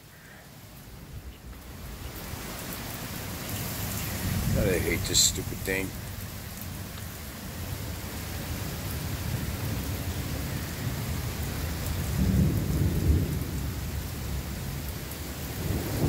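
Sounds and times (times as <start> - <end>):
heavy rain pouring: 0.0 - 16.0
thunder rumble: 0.9 - 6.9, 8.6 - 16.0.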